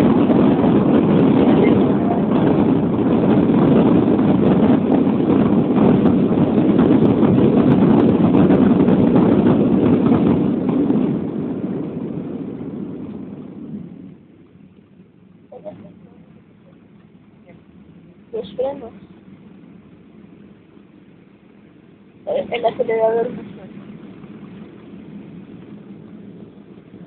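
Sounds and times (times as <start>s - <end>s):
airplane cabin engine rush: 0.0s - 27.0s.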